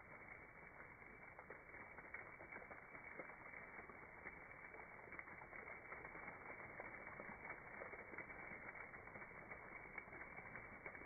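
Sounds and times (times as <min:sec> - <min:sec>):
liquid trickling and splashing on wood: 0:00.0 - 0:11.0.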